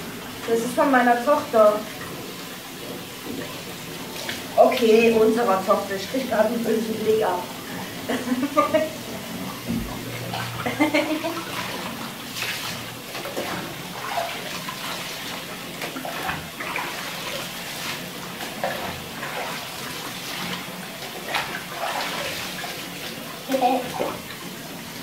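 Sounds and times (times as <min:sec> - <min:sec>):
water splashing in a bathtub: 0:00.0 - 0:25.0.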